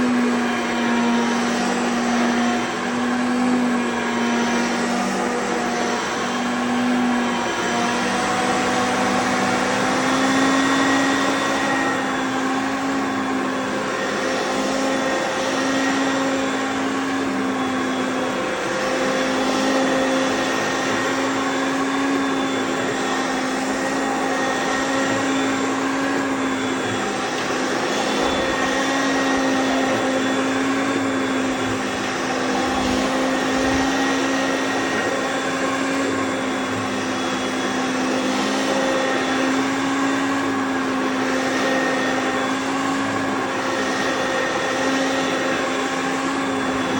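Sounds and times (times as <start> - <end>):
upright vacuum cleaner running: 0.0 - 46.9.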